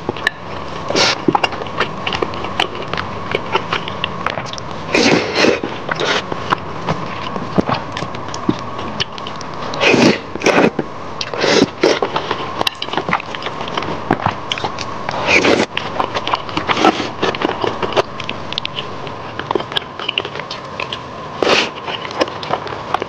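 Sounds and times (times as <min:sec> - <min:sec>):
wet chewing: 0:00.0 - 0:23.0
slurping food: 0:00.8 - 0:07.3, 0:08.8 - 0:18.1, 0:18.8 - 0:22.6.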